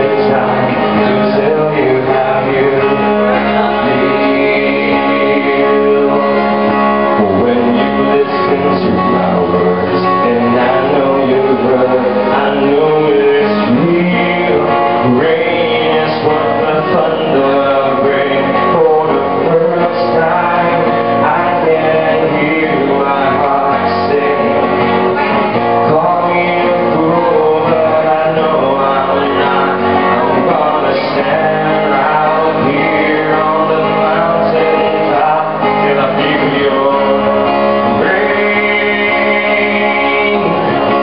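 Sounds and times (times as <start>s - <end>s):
acoustic guitar: 0.0s - 41.0s
man singing: 0.0s - 41.0s.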